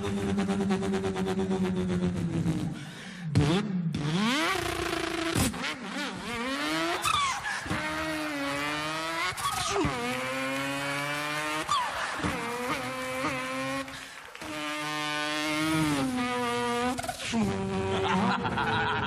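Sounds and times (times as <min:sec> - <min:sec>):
man imitating a car engine: 0:00.0 - 0:19.0.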